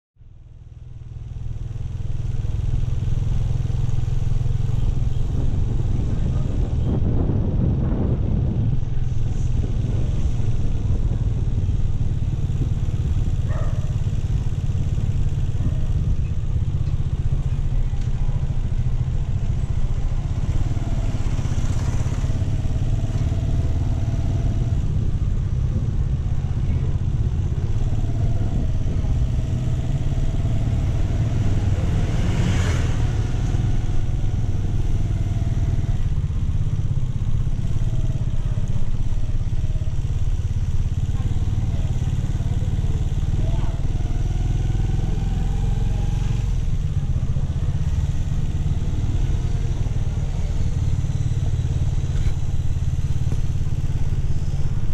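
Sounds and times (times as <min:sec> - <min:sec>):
motorcycle engine rumbling: 0:00.2 - 0:54.9.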